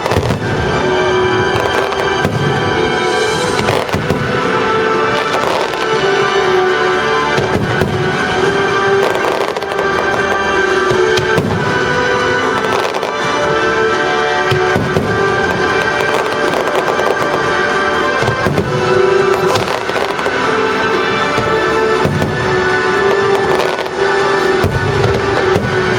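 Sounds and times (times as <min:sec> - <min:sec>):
fireworks bursting and crackling: 0:00.0 - 0:25.9
loud orchestral music: 0:00.0 - 0:25.9.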